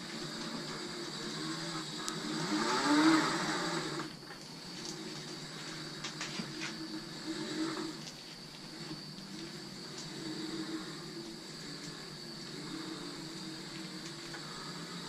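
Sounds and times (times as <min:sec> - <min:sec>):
electric motor whirring: 0:00.0 - 0:15.0
lower steady hum: 0:00.0 - 0:15.0.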